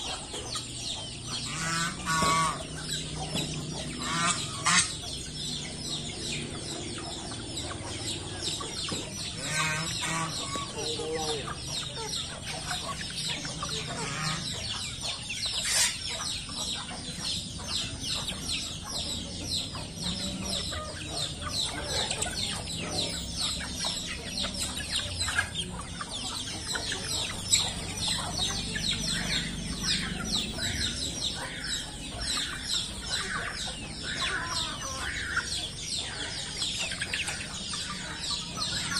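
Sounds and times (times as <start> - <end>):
chickens clucking and calling: 0.0 - 38.9.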